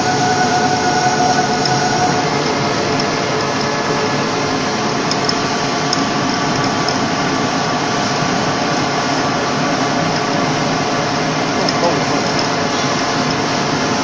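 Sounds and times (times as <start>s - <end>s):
faint hum of steady tones: 0.0s - 14.0s
metal lathe whirring: 0.0s - 14.0s.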